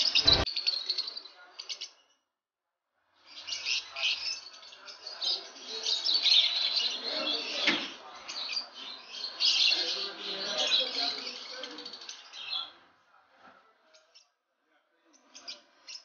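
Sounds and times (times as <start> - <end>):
lovebirds chirping and chattering: 0.0 - 2.1, 3.2 - 13.0, 13.7 - 14.4, 15.0 - 16.0.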